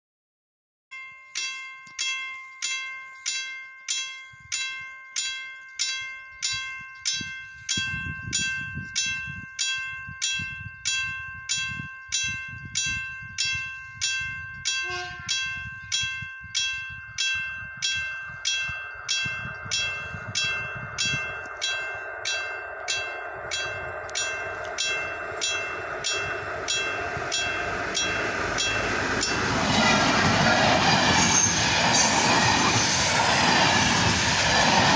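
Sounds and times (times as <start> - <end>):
level crossing warning bell: 0.9 - 34.9
train engine and wheels rumbling: 1.5 - 34.9.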